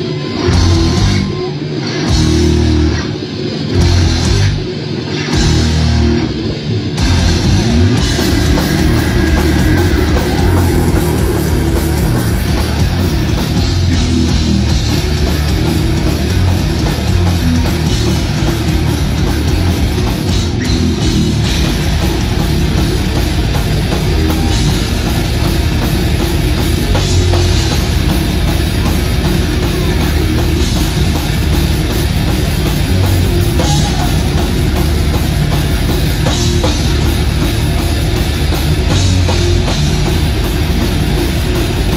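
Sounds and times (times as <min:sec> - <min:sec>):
drum kit: 0:00.0 - 0:41.9
heavily distorted electric guitars: 0:00.0 - 0:41.9.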